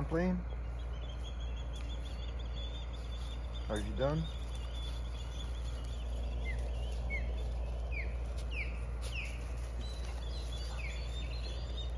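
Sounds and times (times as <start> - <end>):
bird whistling song: 0.0 - 11.9.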